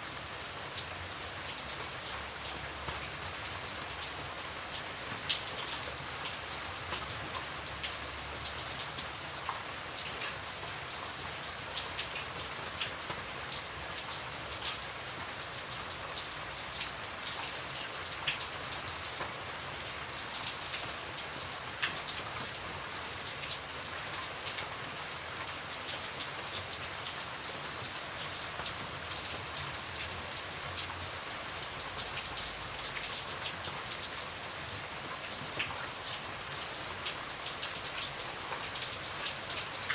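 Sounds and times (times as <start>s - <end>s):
raindrops pattering on a surface: 0.0s - 39.9s.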